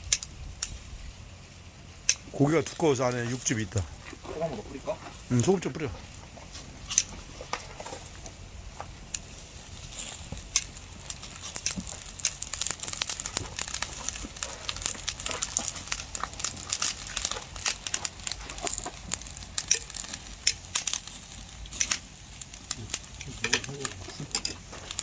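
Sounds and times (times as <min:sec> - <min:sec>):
pork fat sizzling on grill: 0:00.0 - 0:25.0.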